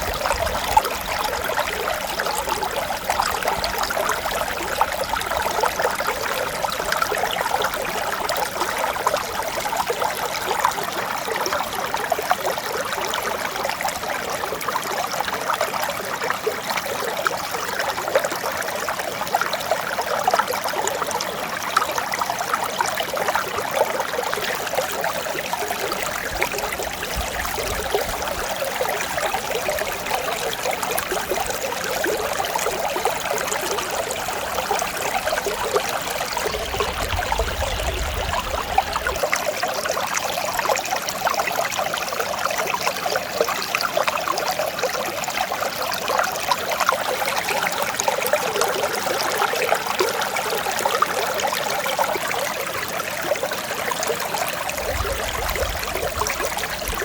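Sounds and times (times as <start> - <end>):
mountain stream babbling: 0.0 - 57.0.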